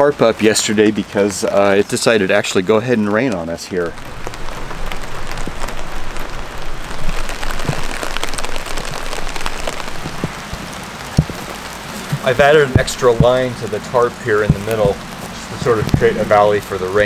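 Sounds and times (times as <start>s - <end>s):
rain falling: 0.0s - 17.0s
raindrops tapping on surfaces: 0.0s - 17.0s.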